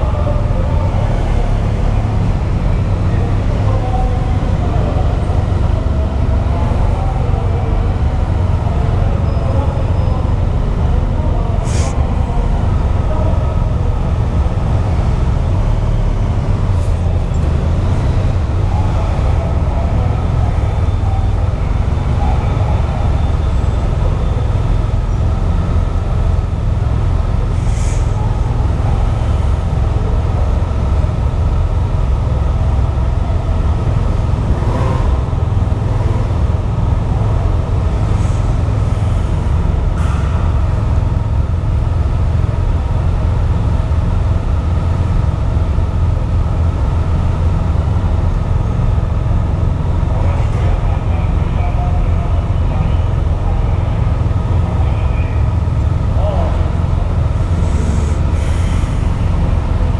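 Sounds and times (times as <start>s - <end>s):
motorcycles idling: 0.0s - 59.9s.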